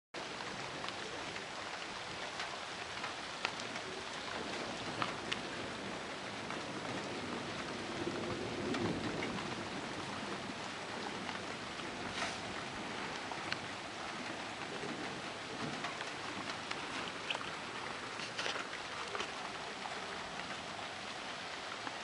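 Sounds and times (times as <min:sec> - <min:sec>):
rain falling: 0:00.2 - 0:22.0
raindrops ticking on surfaces: 0:00.2 - 0:22.0
low thunder rumble: 0:03.6 - 0:21.8.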